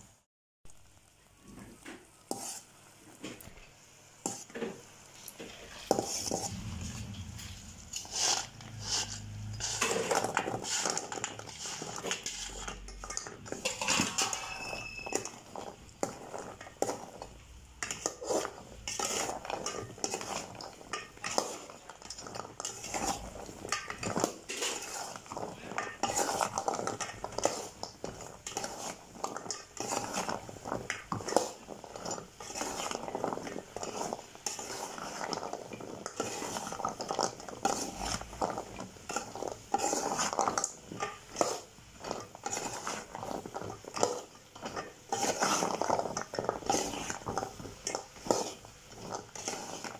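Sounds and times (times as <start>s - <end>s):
metal spoon scraping a metal pot: 5.4s - 49.9s.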